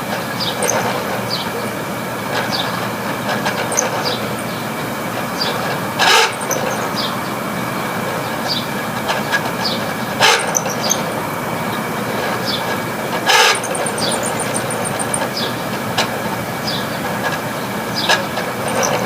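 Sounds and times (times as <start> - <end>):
air conditioner running: 0.0 - 19.0
fan blades sloshing through water: 0.0 - 19.0.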